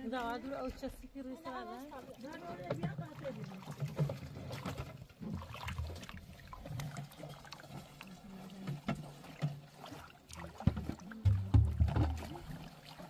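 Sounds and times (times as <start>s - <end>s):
water splashing in metal trough: 1.4s - 13.0s.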